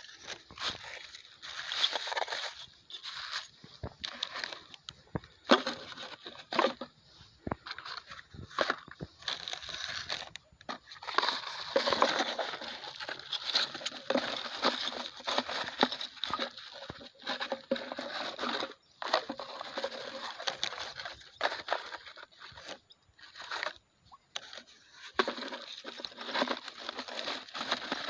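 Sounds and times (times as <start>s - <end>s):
plastic bottles crinkling: 0.0s - 28.0s.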